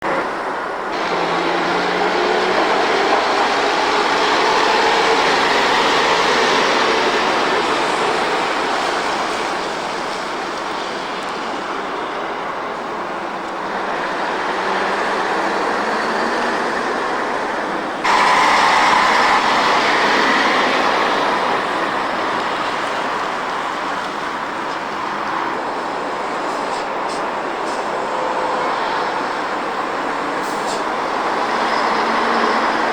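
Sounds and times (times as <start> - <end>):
heavy vehicles running: 0.0 - 32.9.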